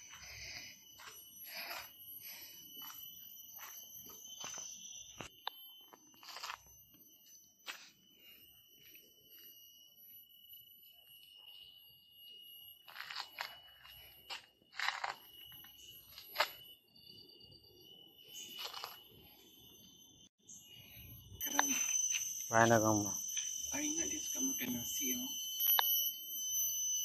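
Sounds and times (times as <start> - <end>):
high-pitched insect drone: 0.0 - 27.0.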